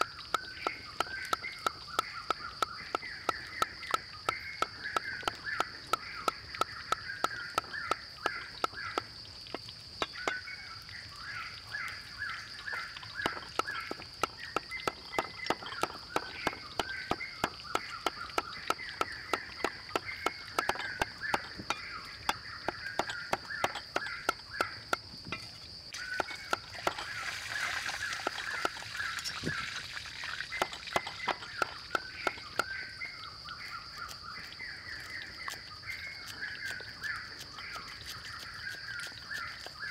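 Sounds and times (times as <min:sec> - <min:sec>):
cleaver chopping meat on wood: 0:00.0 - 0:10.5, 0:12.7 - 0:25.4, 0:26.0 - 0:27.3, 0:28.1 - 0:29.6, 0:30.4 - 0:34.5, 0:35.2 - 0:39.8.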